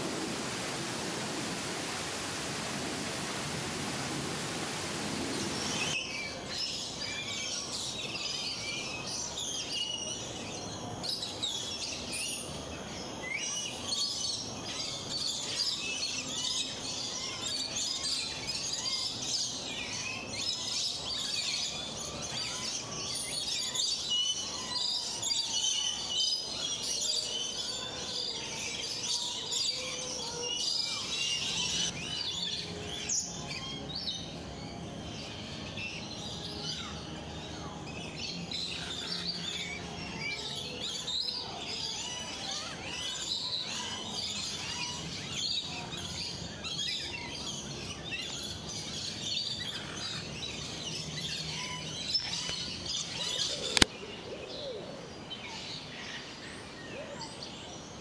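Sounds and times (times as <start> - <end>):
birds chirping chorus: 0.0 - 58.0.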